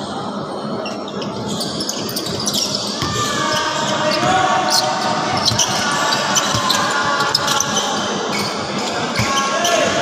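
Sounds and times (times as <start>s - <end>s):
din of players and onlookers: 0.0s - 10.0s.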